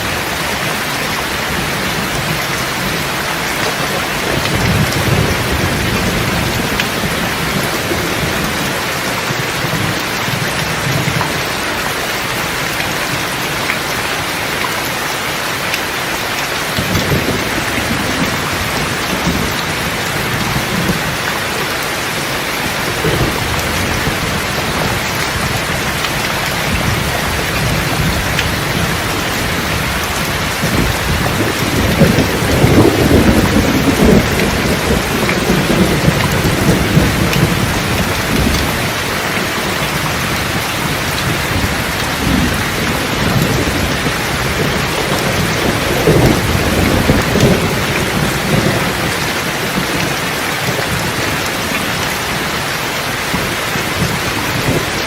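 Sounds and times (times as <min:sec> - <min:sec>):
thunder rumbling: 0:00.0 - 0:14.9, 0:16.2 - 0:55.0
steady rain: 0:00.0 - 0:55.0.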